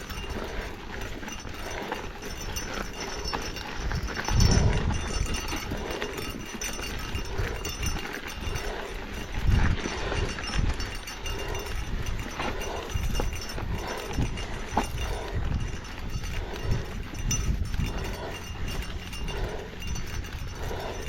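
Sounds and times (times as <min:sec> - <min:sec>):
heavy laboured breathing: 0:00.0 - 0:21.0.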